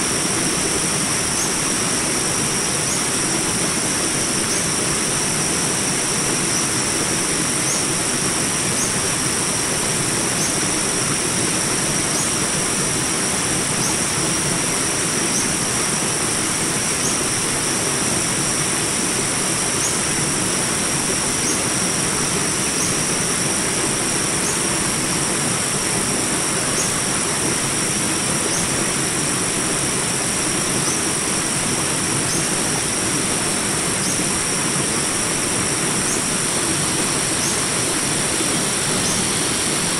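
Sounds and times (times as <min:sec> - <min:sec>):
constant high drone: 0:00.0 - 0:39.9
water rushing over rapids: 0:00.0 - 0:39.9.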